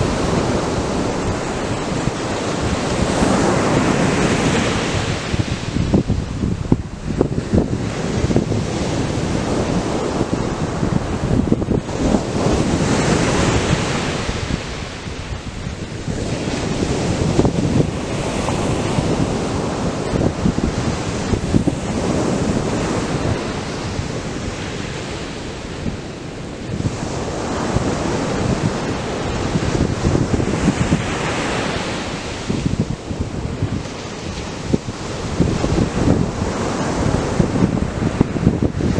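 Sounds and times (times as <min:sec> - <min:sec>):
surf breaking on beach: 0:00.0 - 0:38.9
wind buffeting microphone: 0:00.0 - 0:38.9.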